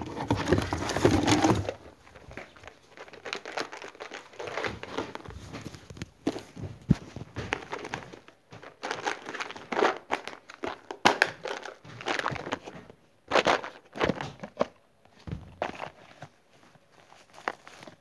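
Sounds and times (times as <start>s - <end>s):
plastic box rustling and knocking: 0.0s - 2.8s, 4.1s - 16.4s.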